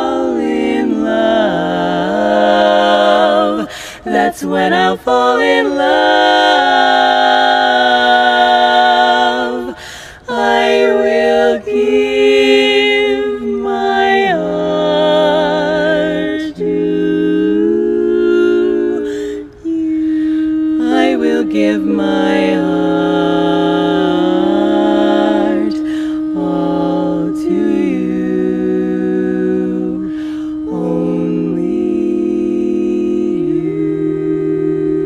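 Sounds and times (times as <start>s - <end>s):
women singing a cappella harmony: 0.0s - 35.0s.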